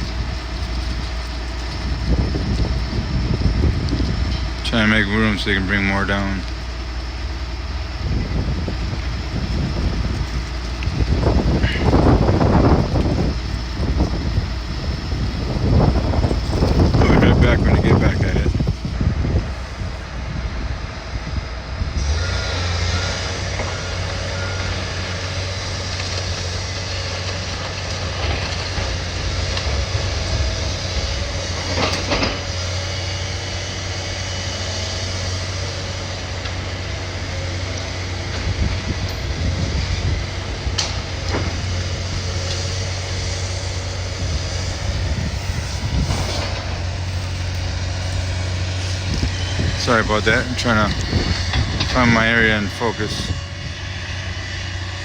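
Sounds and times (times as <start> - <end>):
engine humming steadily: 0.0 - 55.0.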